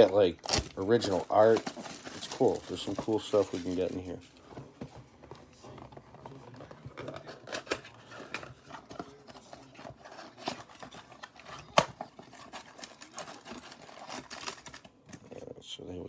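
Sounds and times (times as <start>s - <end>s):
foil packs rustling: 0.0s - 4.7s, 5.6s - 15.0s.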